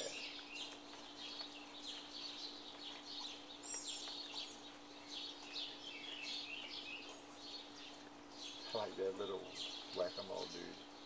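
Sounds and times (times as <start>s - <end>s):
faint steady hum: 0.0s - 11.0s
songbirds chirping and singing: 0.0s - 11.0s.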